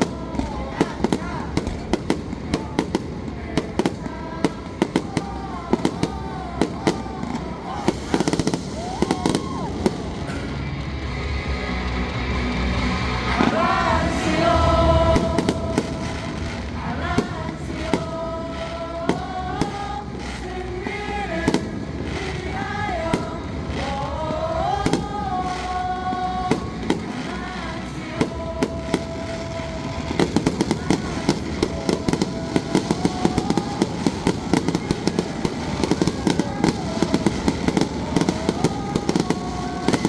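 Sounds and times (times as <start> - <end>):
fireworks banging: 0.0 - 40.0.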